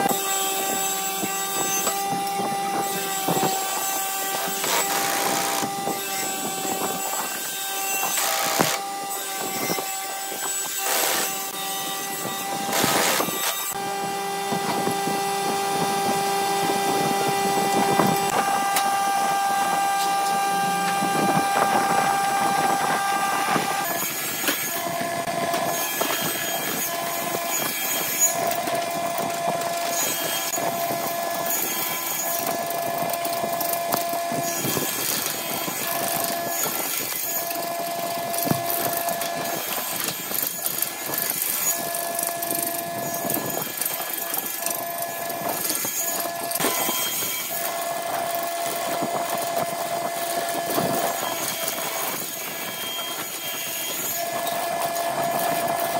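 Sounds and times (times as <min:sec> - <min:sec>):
wood lathe whine: 0:00.0 - 0:55.9.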